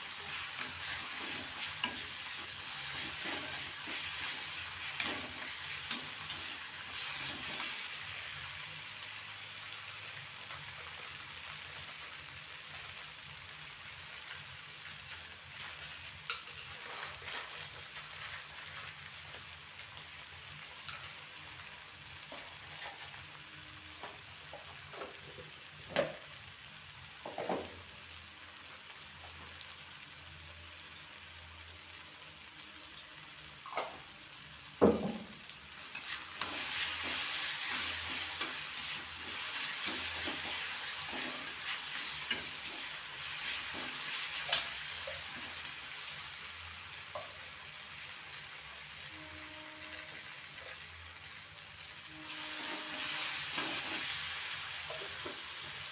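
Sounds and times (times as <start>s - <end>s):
food sizzling in a pan: 0.0s - 55.9s.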